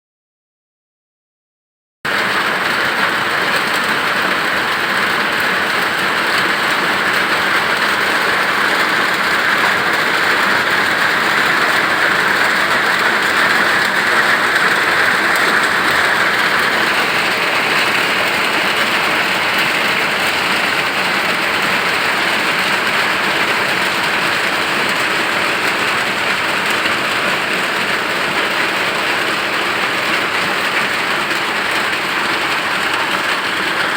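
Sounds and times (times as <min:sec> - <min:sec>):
rain falling steadily: 0:02.1 - 0:33.9.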